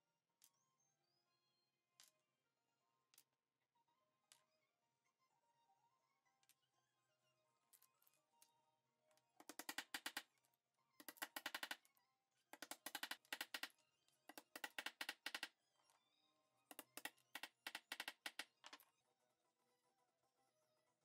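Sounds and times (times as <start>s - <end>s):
faint background music: 0.0s - 21.0s.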